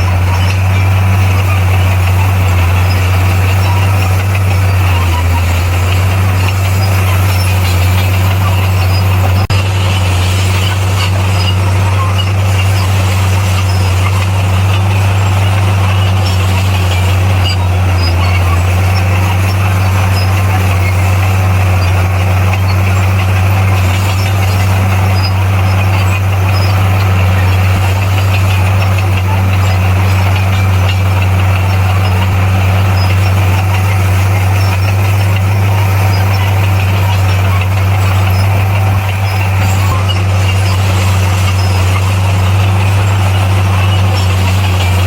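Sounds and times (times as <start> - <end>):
heavy diesel engine droning: 0.0 - 45.0.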